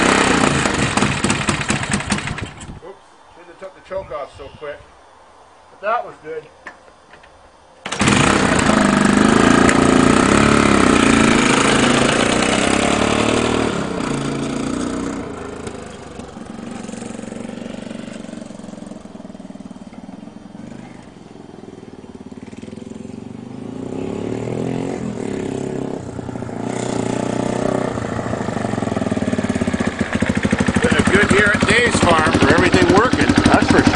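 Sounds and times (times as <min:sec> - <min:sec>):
motorcycle engine running: 0:00.0 - 0:02.8, 0:07.9 - 0:33.9.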